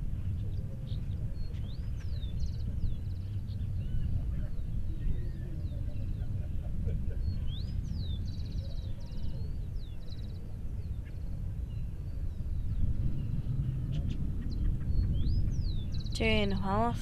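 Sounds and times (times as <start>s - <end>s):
small birds singing: 0.0s - 17.0s
steady low rumble: 0.0s - 17.0s.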